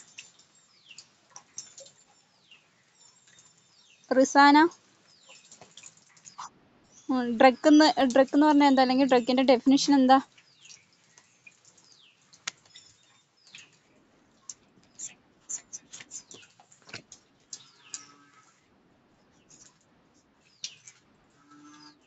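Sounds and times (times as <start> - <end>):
birds chirping: 0.0 - 18.3.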